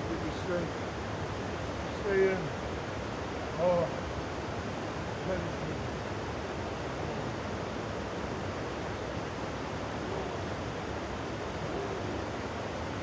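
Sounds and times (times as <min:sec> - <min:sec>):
rain: 0:00.0 - 0:13.0.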